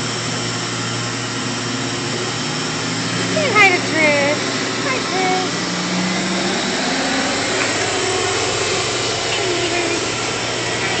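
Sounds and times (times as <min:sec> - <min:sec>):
machine whirring with low hum: 0:00.0 - 0:11.0.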